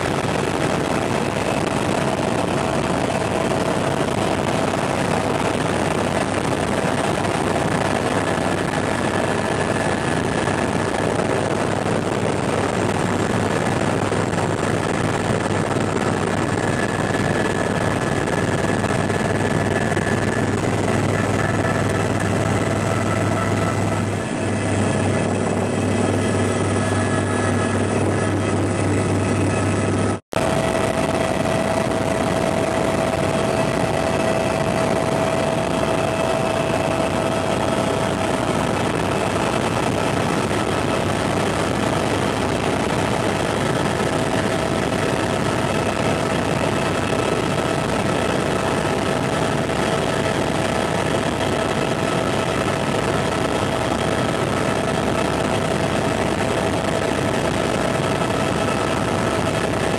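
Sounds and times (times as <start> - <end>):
helicopter engine and rotor noise: 0.0 - 59.9
steady whine: 0.0 - 59.9.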